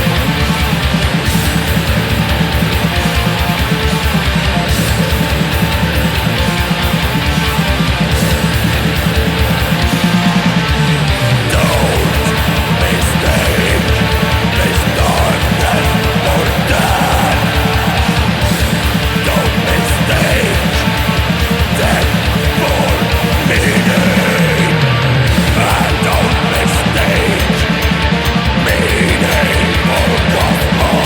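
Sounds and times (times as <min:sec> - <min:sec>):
heavy metal music: 0:00.0 - 0:31.0.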